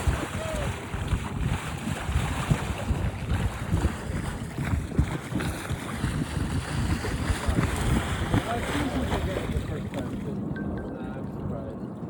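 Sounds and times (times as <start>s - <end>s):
wind gusting across microphone: 0.0s - 12.0s.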